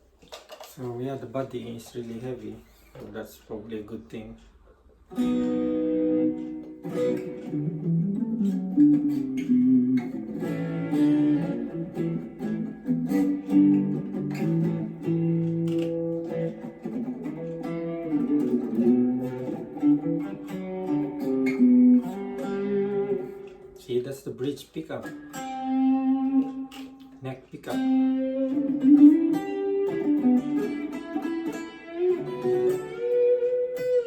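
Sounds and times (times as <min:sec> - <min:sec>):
electric guitar playing notes and chords: 0:04.9 - 0:34.0.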